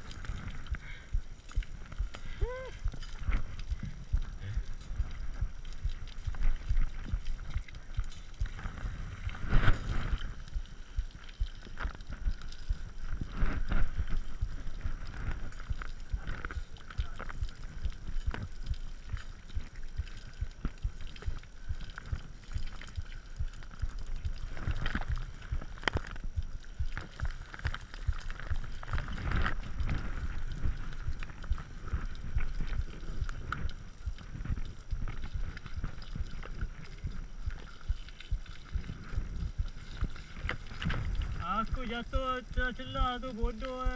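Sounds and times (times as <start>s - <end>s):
bike tyres rumbling: 0.0s - 43.9s.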